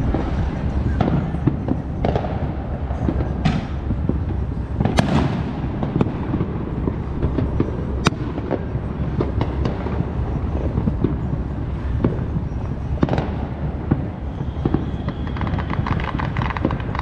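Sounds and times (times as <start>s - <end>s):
sharp firecracker cracks: 0.0s - 11.2s, 13.0s - 17.0s
distant fireworks rumble: 0.0s - 17.0s.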